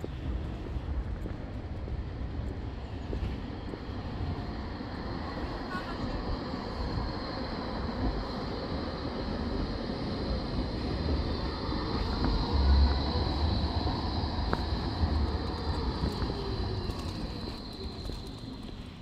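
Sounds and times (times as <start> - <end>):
tram passing: 0.0 - 19.0.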